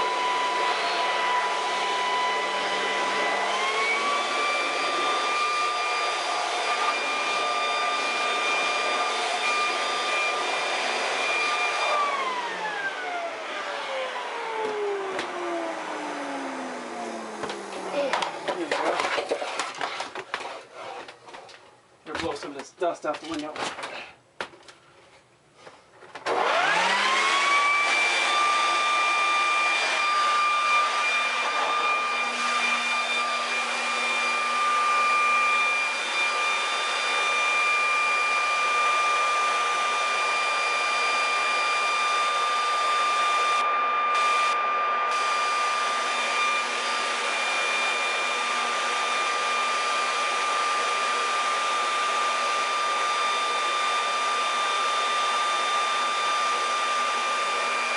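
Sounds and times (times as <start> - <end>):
leaf blower whine: 0.0 - 19.1, 26.2 - 57.9.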